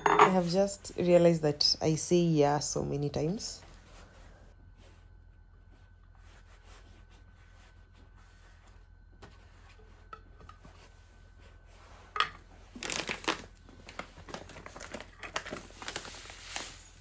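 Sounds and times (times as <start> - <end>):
crinkling and rustling: 3.3 - 17.0.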